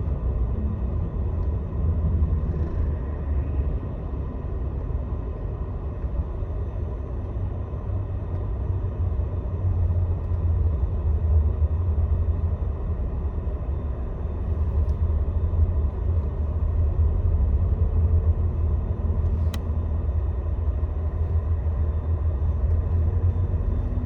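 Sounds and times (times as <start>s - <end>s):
coach engine and road rumble: 0.0s - 24.0s.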